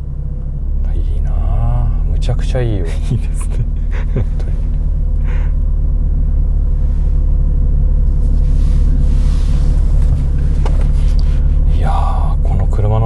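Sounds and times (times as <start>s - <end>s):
car engine rumble: 0.0s - 13.0s
road noise hiss: 1.7s - 12.4s.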